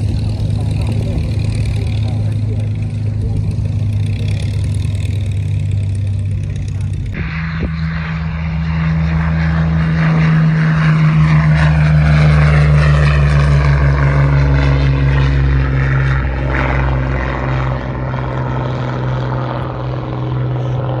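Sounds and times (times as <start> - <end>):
propeller plane engine at take-off: 0.0 - 21.0.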